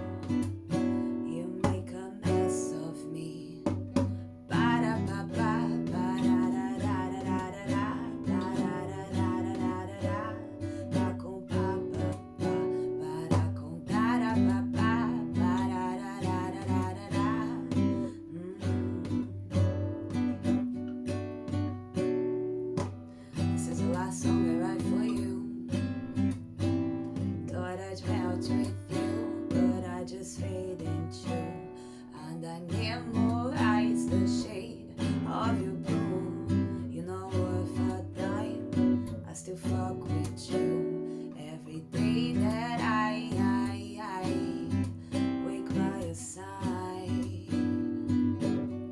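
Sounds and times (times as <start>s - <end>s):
acoustic guitar: 0.0s - 48.9s
person singing: 0.7s - 19.8s, 23.4s - 25.9s, 27.4s - 48.8s.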